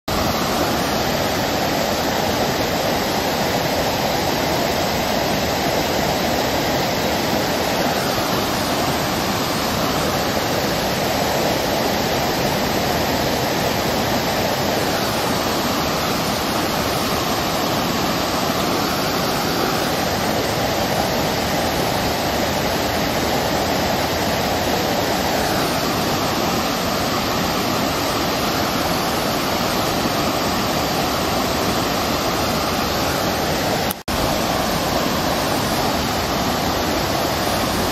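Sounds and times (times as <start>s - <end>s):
water rushing over blocks: 0.1s - 37.9s.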